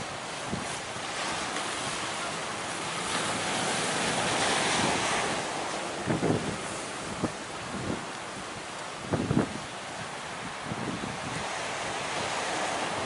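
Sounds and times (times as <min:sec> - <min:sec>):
wind buffeting microphone: 0:00.0 - 0:02.0, 0:03.0 - 0:13.0
sea waves and surf: 0:00.0 - 0:13.0.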